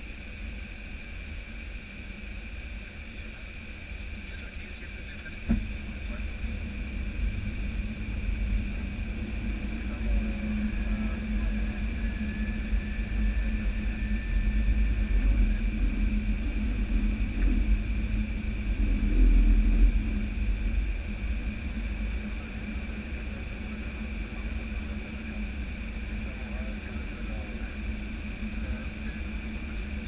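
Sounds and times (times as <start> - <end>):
airflow and engine rumble: 0.0 - 30.0
constant cockpit hum: 0.0 - 30.0.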